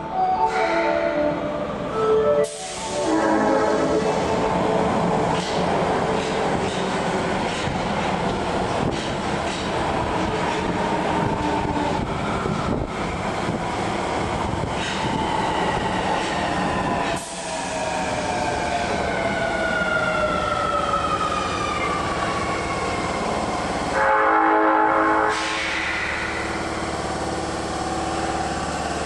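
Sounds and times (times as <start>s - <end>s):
train wheels rumbling on rail: 1.6s - 29.0s.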